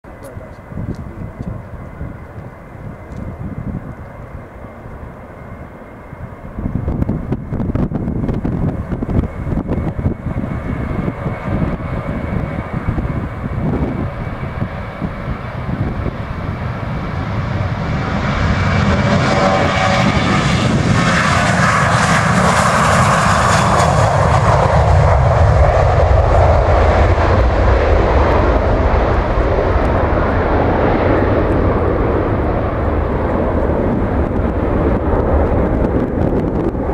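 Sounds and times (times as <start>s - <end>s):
jet engines roaring at takeoff: 0.0s - 36.9s.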